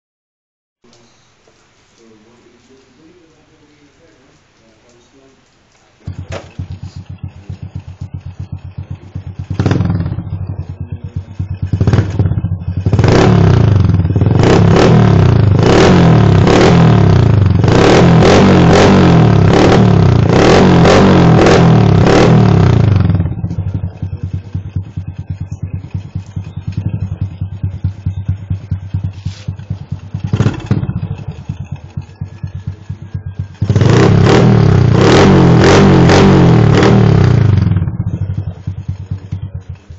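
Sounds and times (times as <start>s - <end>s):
motorcycle engine idling and revving: 6.0s - 39.9s.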